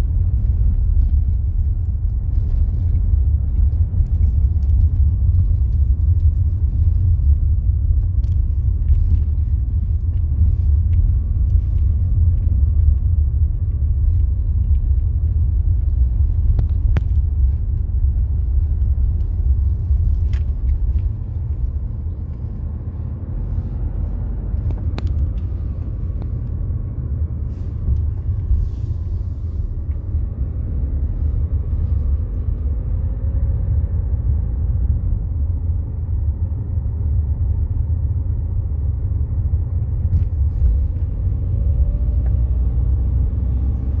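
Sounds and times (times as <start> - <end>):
car cabin rumble: 0.0 - 44.0.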